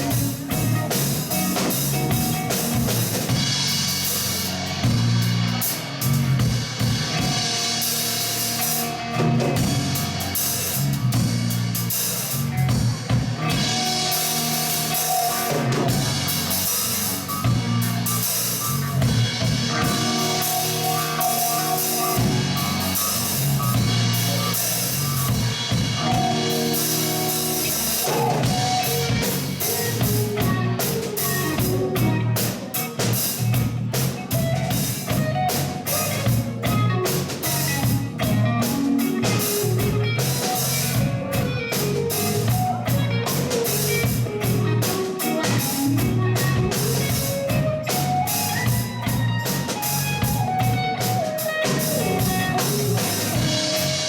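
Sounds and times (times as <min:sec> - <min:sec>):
bass guitar: 0:00.0 - 0:54.0
drum kit: 0:00.0 - 0:54.0
electric guitar lead lines: 0:00.0 - 0:54.0.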